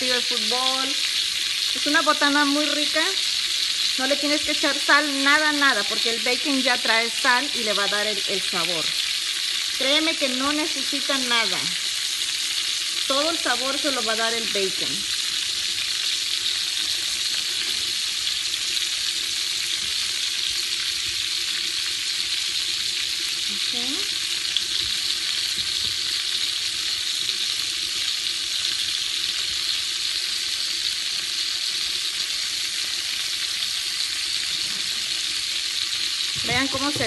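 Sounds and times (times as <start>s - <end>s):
food sizzling in a frying pan: 0.0s - 37.0s.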